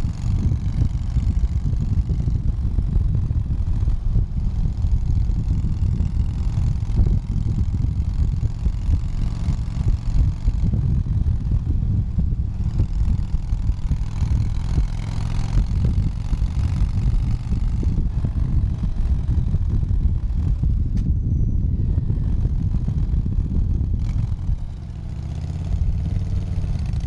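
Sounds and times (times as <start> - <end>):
motorcycle engine rumble: 0.0 - 27.0
wind noise on microphone: 0.0 - 27.0.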